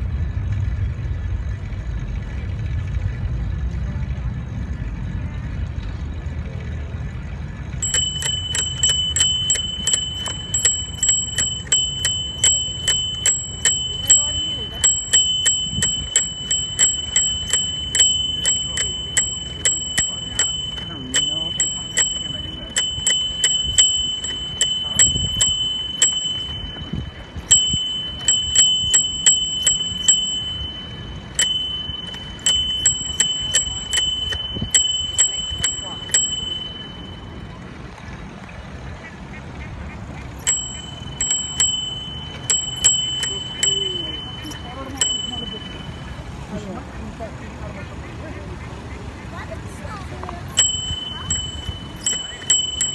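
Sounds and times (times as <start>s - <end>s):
low rumble of riding: 0.0s - 52.9s
bicycle bell ringing: 7.7s - 38.0s, 40.2s - 52.9s.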